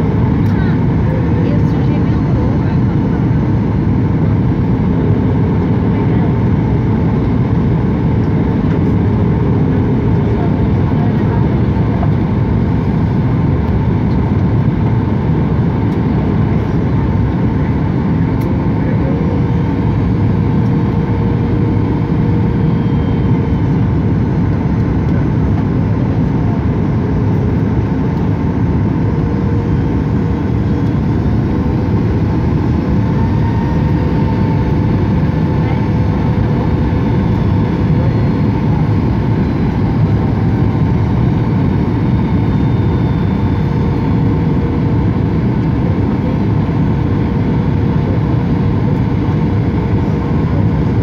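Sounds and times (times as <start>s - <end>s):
airliner engine rumble: 0.0s - 51.0s.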